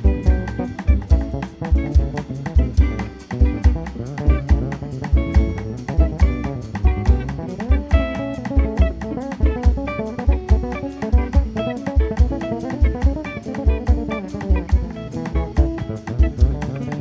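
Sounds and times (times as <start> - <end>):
double bass: 0.0 - 10.8, 11.4 - 17.0
drum kit beat: 0.0 - 17.0
electric guitar: 0.0 - 17.0.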